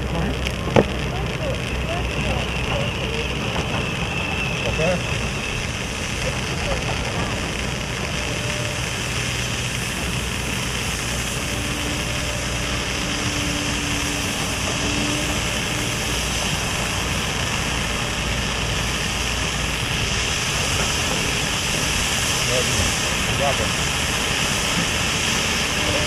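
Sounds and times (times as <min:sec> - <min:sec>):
firework hissing sparks: 0:00.0 - 0:26.0.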